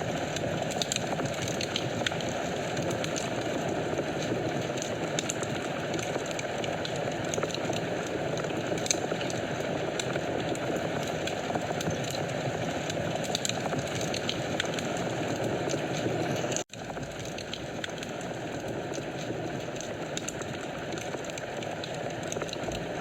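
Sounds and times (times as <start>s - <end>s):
rush of flames: 0.0s - 23.0s
wood fire crackling and popping: 0.0s - 23.0s.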